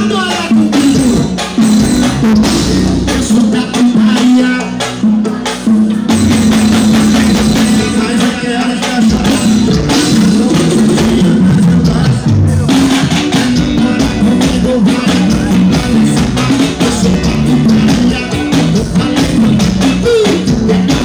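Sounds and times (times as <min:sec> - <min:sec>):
bass line: 0:00.0 - 0:21.0
drum kit beat: 0:00.0 - 0:21.0
live band playing: 0:00.0 - 0:21.0.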